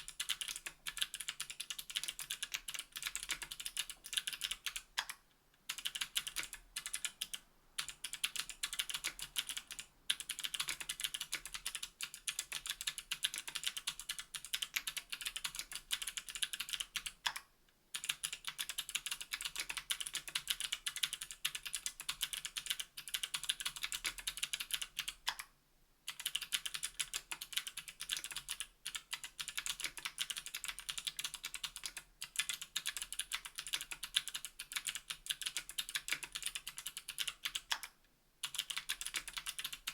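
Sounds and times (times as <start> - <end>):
clicky keyboard typing: 0.0 - 25.5, 26.1 - 39.9.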